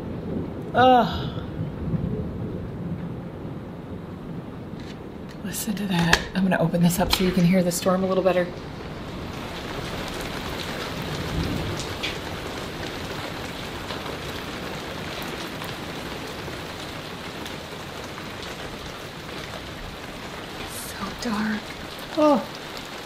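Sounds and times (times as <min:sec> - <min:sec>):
low thunder rumble: 0:00.0 - 0:22.7
heavy rain pouring: 0:00.0 - 0:23.0.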